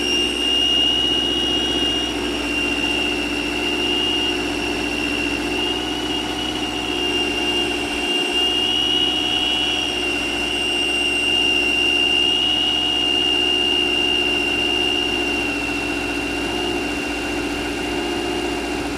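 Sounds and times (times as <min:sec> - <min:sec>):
engine idling: 0:00.0 - 0:18.9
high-pitched bearing whistle: 0:00.0 - 0:18.9.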